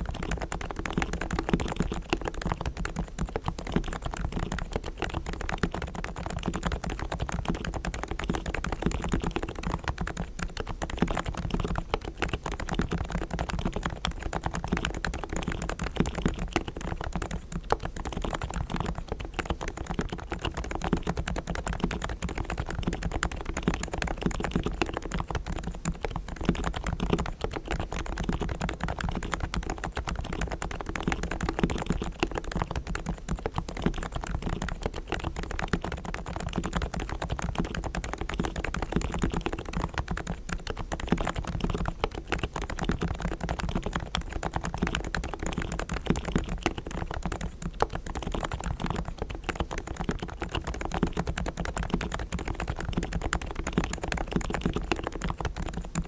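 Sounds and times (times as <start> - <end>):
keyboard typing: 0.0 - 56.0.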